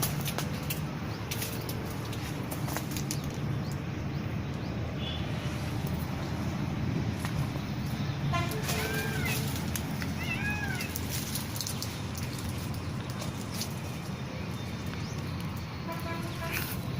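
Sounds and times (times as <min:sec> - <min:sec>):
low rumble of traffic: 0:00.0 - 0:16.9.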